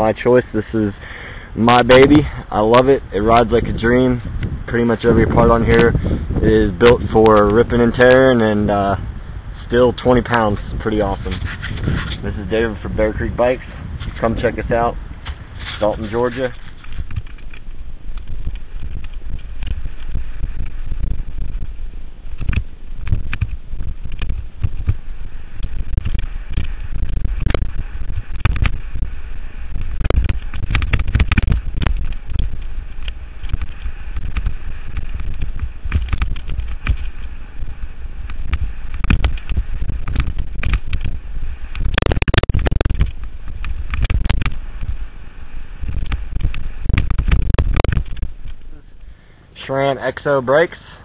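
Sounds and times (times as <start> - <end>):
bike rattling over rough ground: 0.0 - 48.9
wind rumbling on microphone: 0.0 - 51.0.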